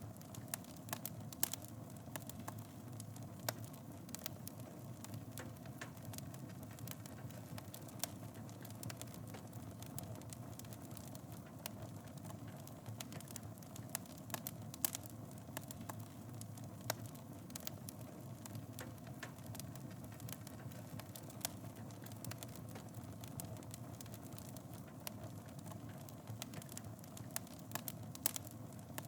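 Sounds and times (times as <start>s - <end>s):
fire crackling in a fireplace: 0.0s - 29.0s.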